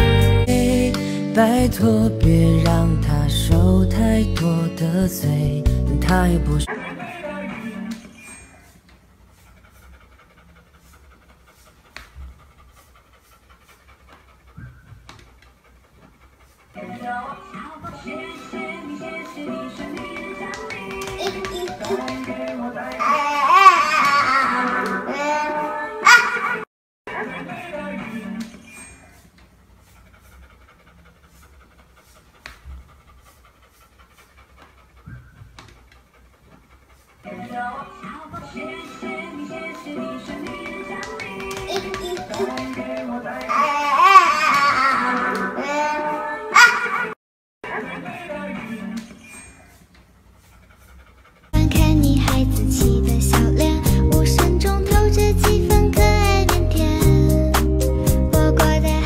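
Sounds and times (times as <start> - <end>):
dog panting: 6.1 - 26.6, 27.4 - 47.2, 48.3 - 59.0.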